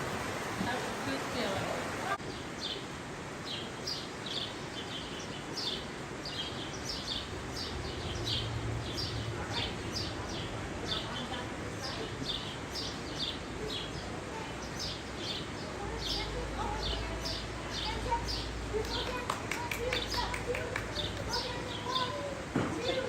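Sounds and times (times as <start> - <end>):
outdoor background hiss: 0.0 - 23.0
small birds chirping: 0.7 - 23.0.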